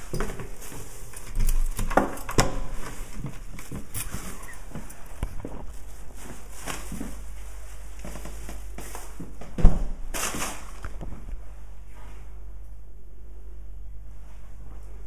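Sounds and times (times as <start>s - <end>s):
handling knocks and rustles: 0.0s - 12.3s
steady low hum: 0.0s - 15.0s.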